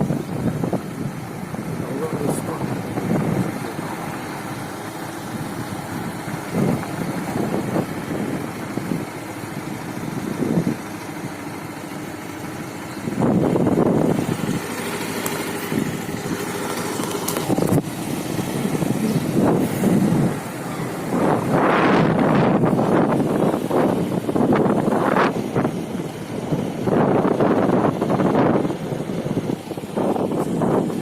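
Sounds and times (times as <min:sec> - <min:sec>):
road traffic engines: 0:00.0 - 0:31.0.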